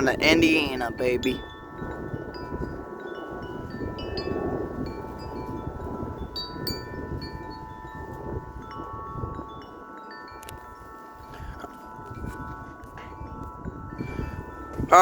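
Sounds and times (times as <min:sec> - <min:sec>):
low wind rumble on microphone: 0:00.0 - 0:15.0
wind chimes ringing: 0:00.0 - 0:15.0.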